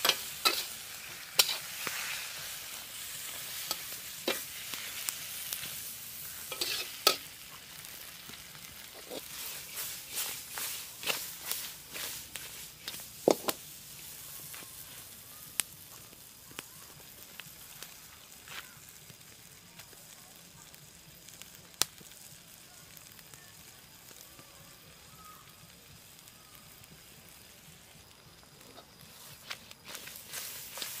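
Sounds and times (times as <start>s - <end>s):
food sizzling in a wok: 0.0s - 31.0s.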